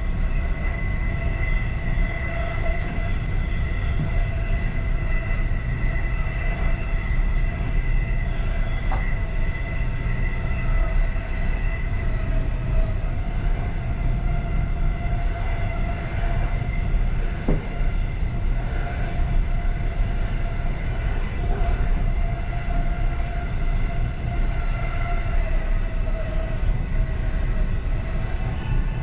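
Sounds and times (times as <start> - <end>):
faint steady whine: 0.0 - 29.0
train wheels rumbling on rail: 0.0 - 29.0.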